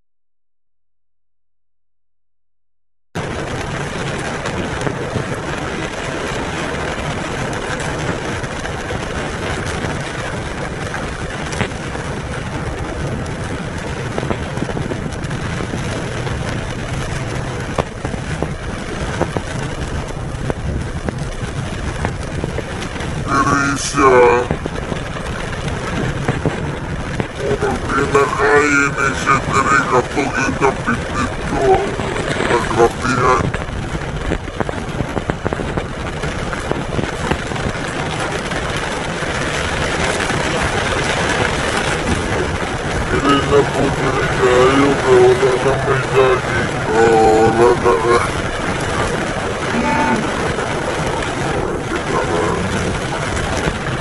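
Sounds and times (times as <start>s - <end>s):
engine and road rumble: 3.2s - 54.0s
heavy rain on a car roof: 3.2s - 54.0s.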